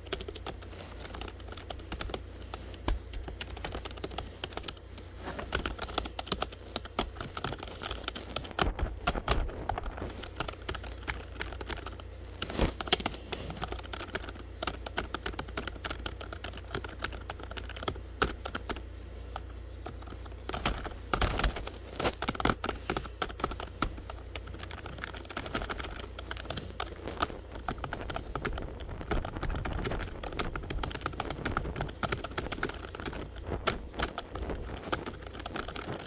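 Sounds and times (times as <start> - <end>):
computer keyboard typing: 0.0 - 36.0
steady low hum: 0.0 - 36.0.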